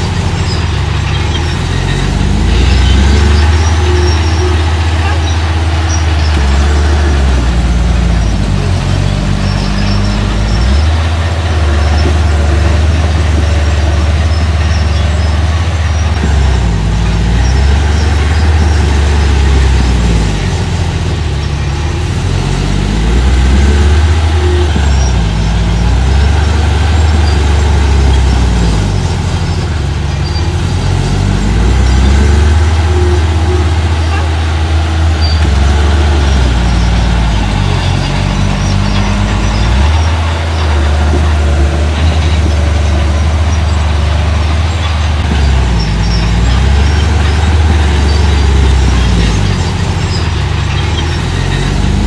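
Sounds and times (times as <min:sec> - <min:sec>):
diesel engine running hard: 0:00.0 - 0:52.0.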